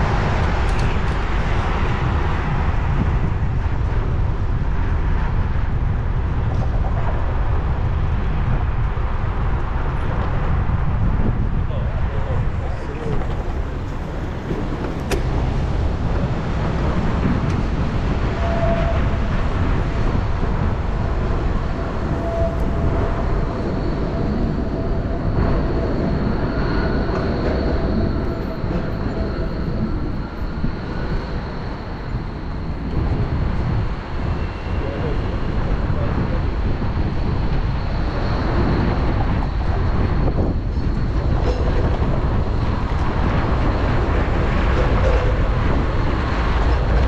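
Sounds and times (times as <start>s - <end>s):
passing vehicle whine: 0.0s - 47.0s
wind buffeting microphone: 0.0s - 47.0s.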